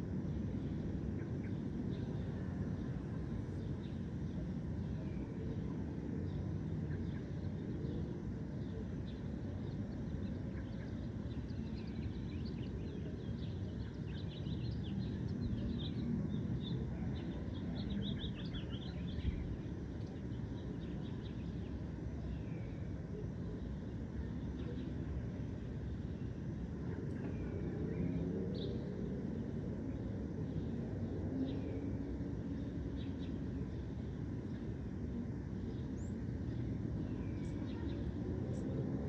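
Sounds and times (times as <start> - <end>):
low background rumble: 0.0 - 39.0
small birds chirping: 0.0 - 39.0.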